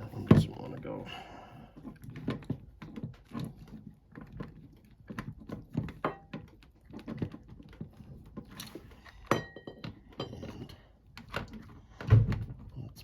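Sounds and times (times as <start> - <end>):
plastic parts clicking and scraping: 1.7 - 13.0.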